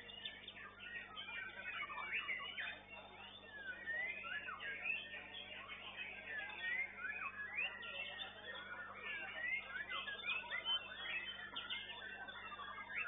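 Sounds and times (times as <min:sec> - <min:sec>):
birds singing whistled phrases: 0:00.0 - 0:13.0.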